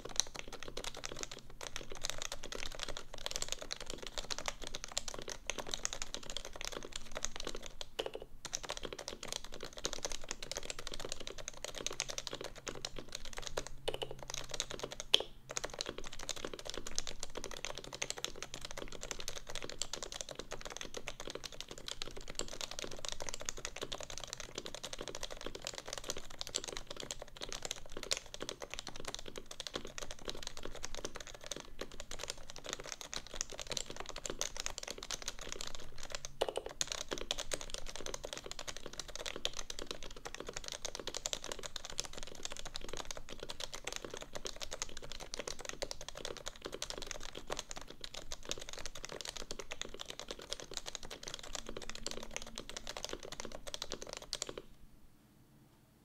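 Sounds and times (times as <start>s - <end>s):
fast keyboard typing: 0.0s - 54.7s.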